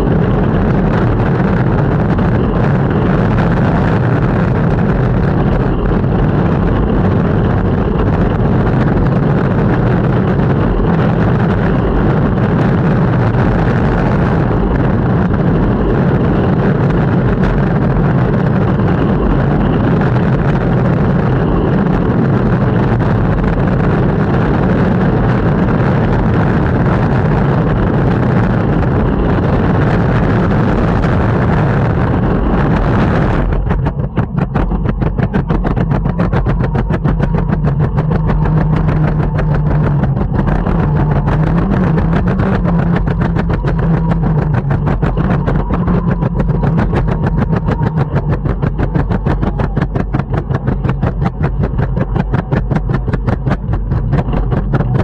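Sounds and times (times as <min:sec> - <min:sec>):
longboard wheels rolling on street: 0:00.0 - 0:55.0.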